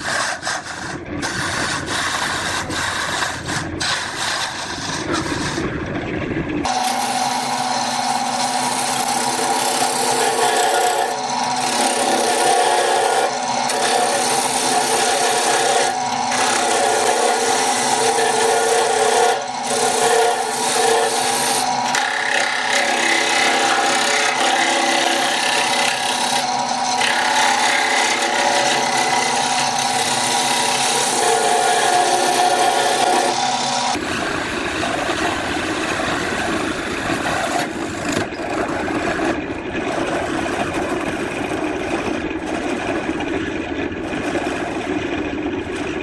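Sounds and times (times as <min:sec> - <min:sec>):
tool scraping spinning wood: 0:00.0 - 0:06.0, 0:06.6 - 0:46.0
lathe motor hum: 0:06.6 - 0:46.0.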